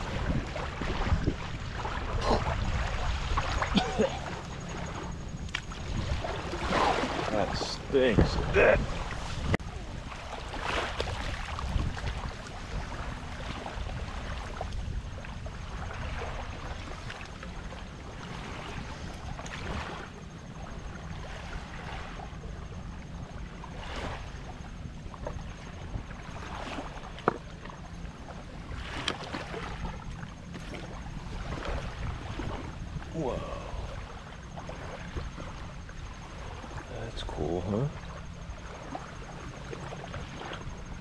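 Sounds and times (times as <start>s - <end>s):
wind rumble on microphone: 0.0s - 41.0s.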